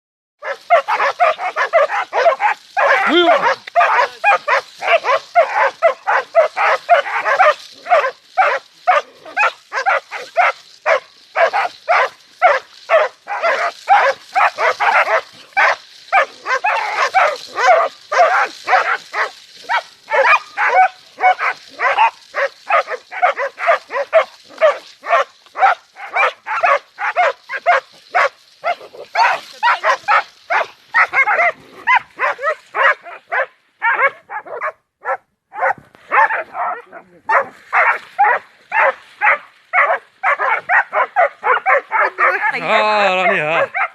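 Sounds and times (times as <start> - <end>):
dog barking: 0.4 - 43.9.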